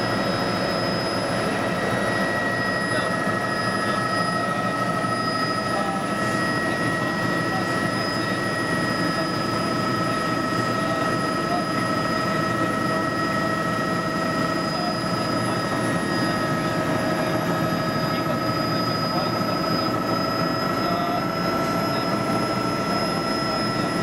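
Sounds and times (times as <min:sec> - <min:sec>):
constant whining tones: 0:00.0 - 0:24.0
helicopter engine and rotor drone: 0:00.0 - 0:24.0.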